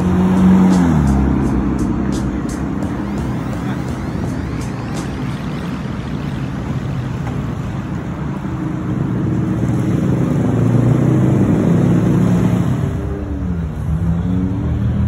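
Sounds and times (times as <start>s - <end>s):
road traffic noise: 0.0s - 15.0s
vehicle engine: 0.0s - 15.0s.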